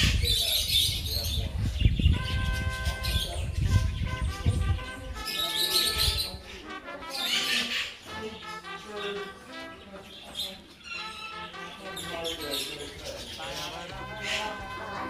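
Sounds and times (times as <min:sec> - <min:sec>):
budgerigars chirping: 0:00.0 - 0:06.5, 0:07.2 - 0:15.0.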